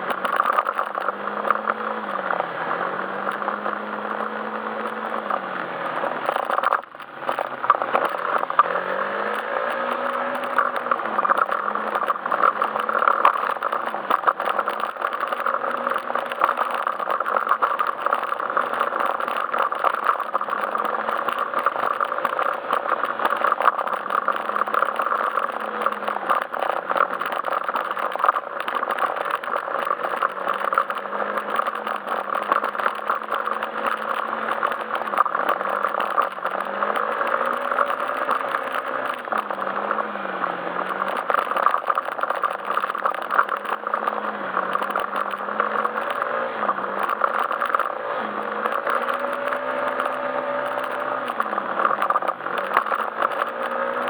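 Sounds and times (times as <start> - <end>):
road noise: 0.0 - 54.0
scooter engine running: 0.0 - 54.0.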